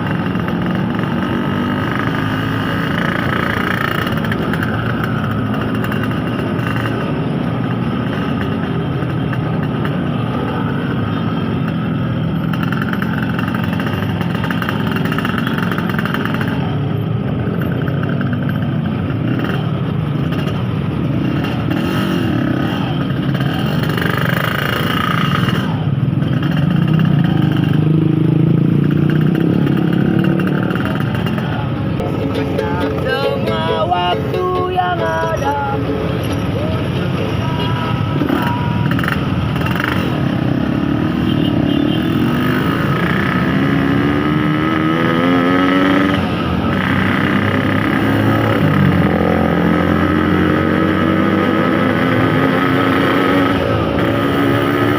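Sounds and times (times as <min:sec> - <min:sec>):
motorcycle engine running: 0:00.0 - 0:44.2.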